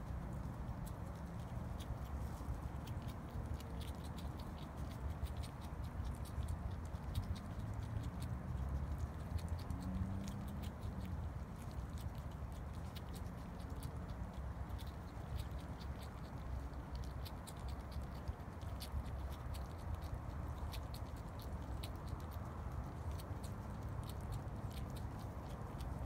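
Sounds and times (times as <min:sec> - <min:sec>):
skunk chewing and foraging: 0:00.0 - 0:26.0
steady low rumble: 0:00.0 - 0:26.0.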